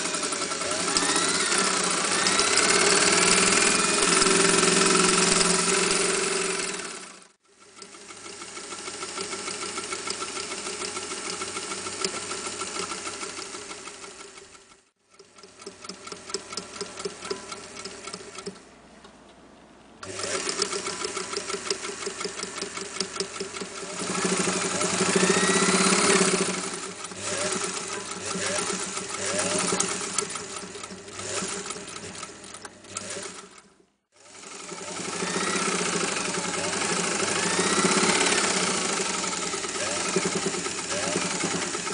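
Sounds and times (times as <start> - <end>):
sewing machine stitching: 0.0 - 18.6, 20.0 - 41.9.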